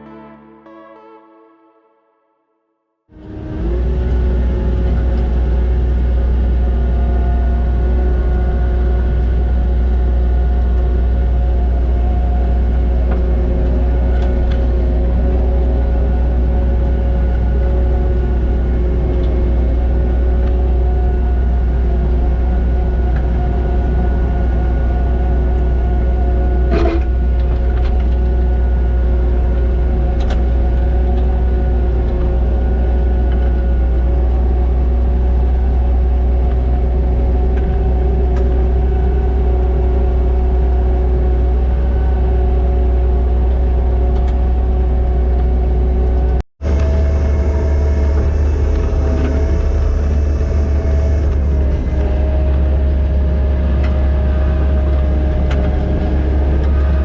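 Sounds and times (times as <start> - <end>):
diesel engine running under load: 3.1 - 57.0.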